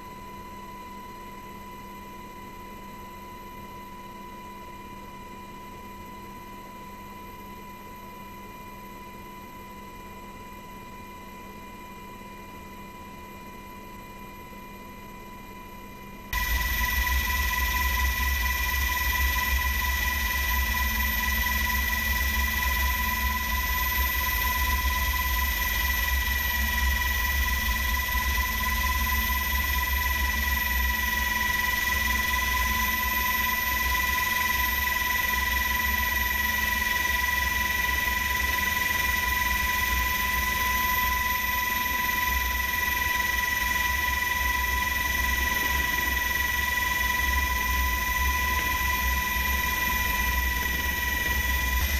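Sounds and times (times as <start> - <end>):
helicopter whine and rotor throb: 0.0 - 51.9.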